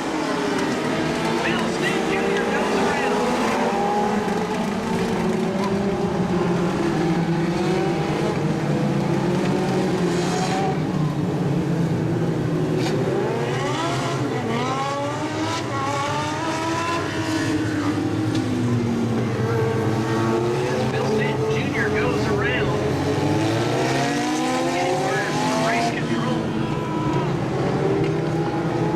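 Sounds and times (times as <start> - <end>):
race car engines revving: 0.0 - 28.9.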